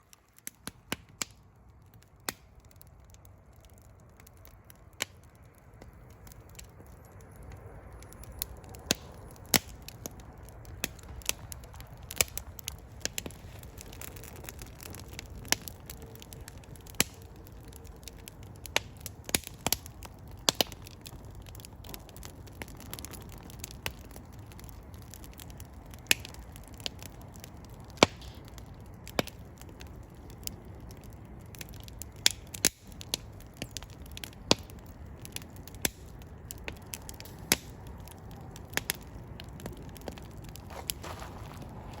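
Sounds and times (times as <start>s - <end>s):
fire crackling and popping: 0.0s - 42.0s
rush of flames: 1.9s - 42.0s.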